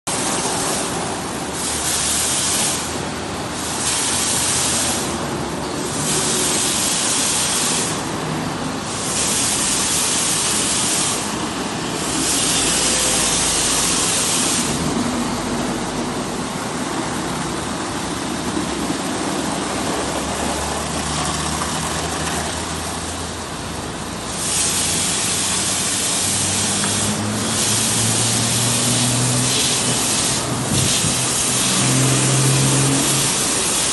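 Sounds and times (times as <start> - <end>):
water spray hissing against car: 0.1 - 33.9.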